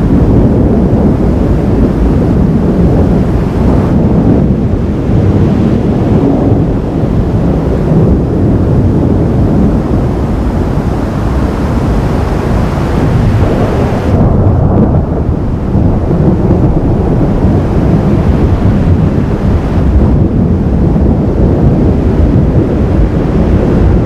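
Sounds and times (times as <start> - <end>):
rolling thunder: 0.0 - 24.0
wind buffeting microphone: 0.0 - 24.0.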